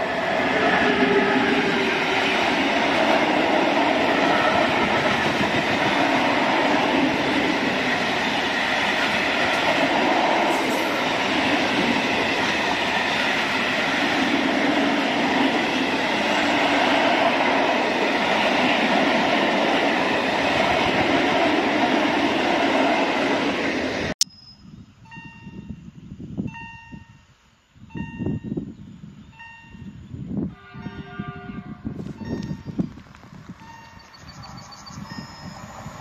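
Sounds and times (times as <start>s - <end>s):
freight train rolling past: 0.0s - 24.2s, 29.4s - 36.0s.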